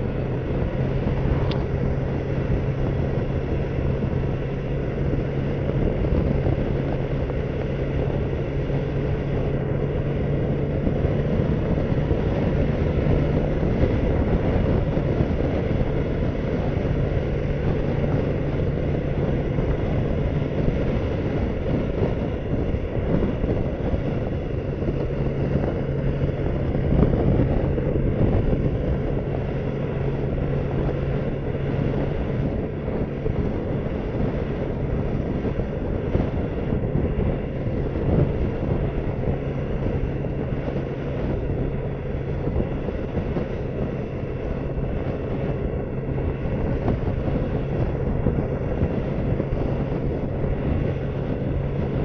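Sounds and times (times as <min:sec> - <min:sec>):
motorcycle engine cruising: 0:00.0 - 0:52.0
wind and road noise: 0:00.0 - 0:52.0.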